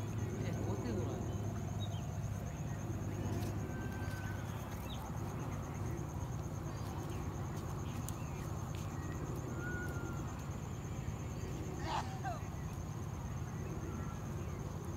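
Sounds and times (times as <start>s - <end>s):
low steady hum: 0.0s - 14.9s
pulsing insect trill: 0.0s - 14.9s.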